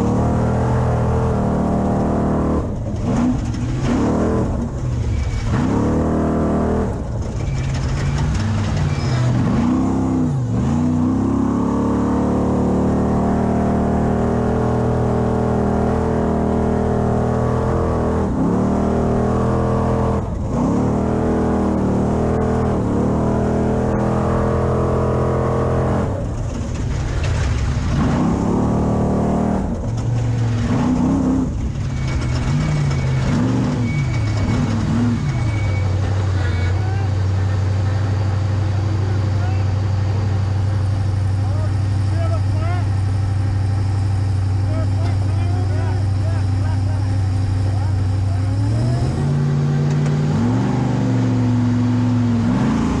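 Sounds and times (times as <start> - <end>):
truck engine revving hard: 0.0 - 53.0.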